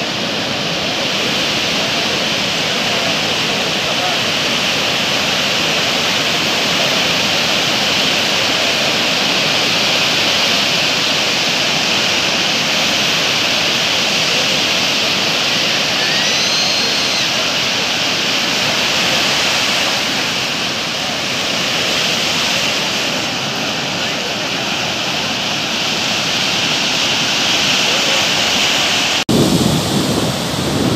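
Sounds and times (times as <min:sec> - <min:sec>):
sea surf breaking on beach: 0:00.0 - 0:30.9.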